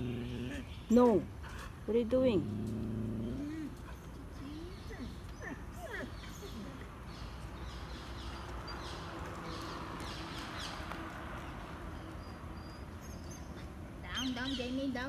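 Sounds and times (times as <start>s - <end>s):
birds chirping: 0.0s - 15.0s
outdoor background hum: 0.0s - 15.0s.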